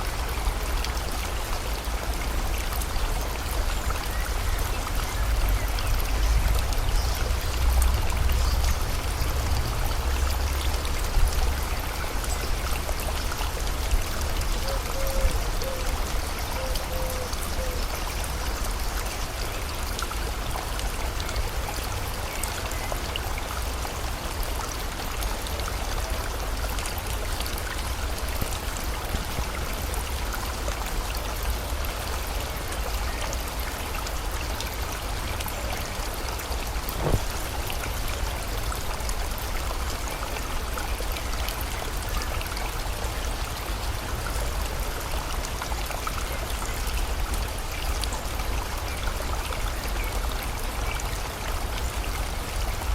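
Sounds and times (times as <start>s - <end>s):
rain falling: 0.0s - 52.9s
river flowing: 0.0s - 52.9s.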